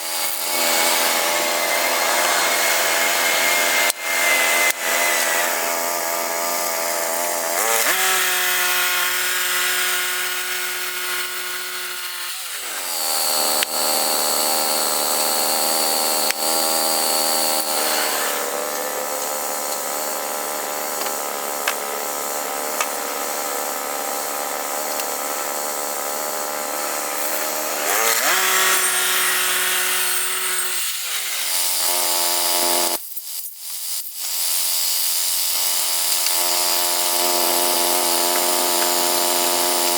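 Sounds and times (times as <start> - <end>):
band saw blade sawing log: 0.0 - 33.0, 34.3 - 39.9.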